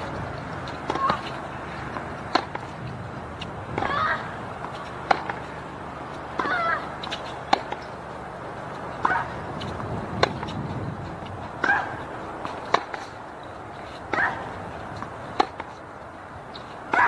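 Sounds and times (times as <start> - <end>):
tennis racket hitting ball: 0.0 - 2.8, 3.4 - 8.0, 8.6 - 15.8, 16.5 - 17.0.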